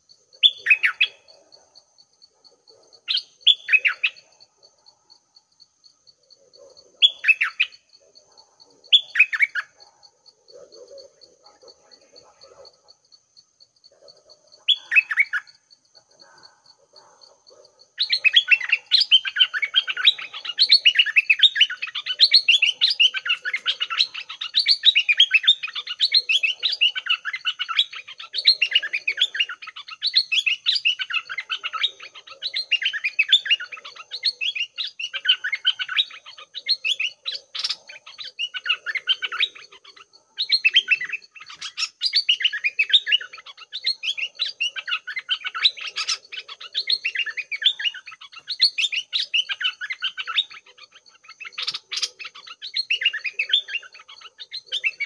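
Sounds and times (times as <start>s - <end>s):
songbirds chirping and warbling: 0.0s - 55.0s.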